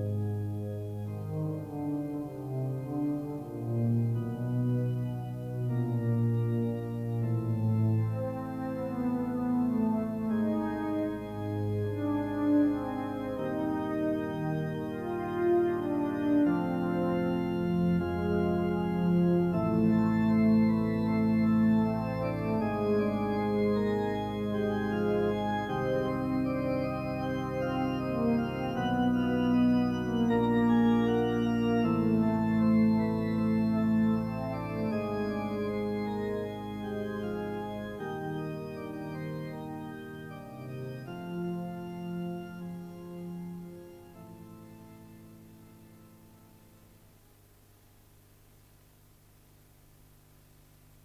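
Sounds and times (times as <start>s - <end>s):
organ playing chords: 0.0s - 46.9s.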